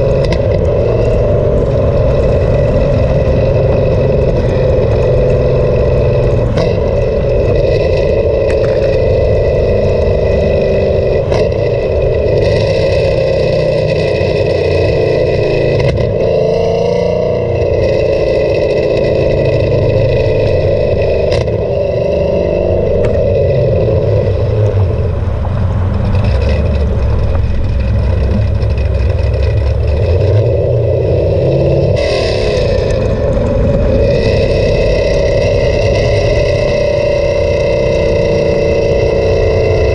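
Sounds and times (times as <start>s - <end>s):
car exhaust rumbling: 0.0s - 39.9s.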